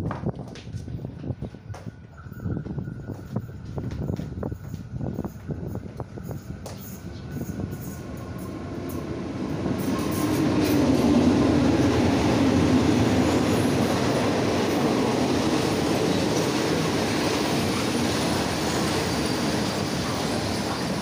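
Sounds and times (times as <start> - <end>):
train wheels rumbling on rails: 0.0 - 21.0
diesel locomotive engine: 1.0 - 21.0.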